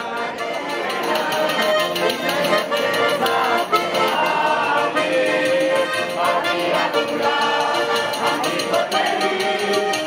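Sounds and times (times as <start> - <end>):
button accordion playing: 0.0 - 10.0
crowd singing along: 0.0 - 10.0.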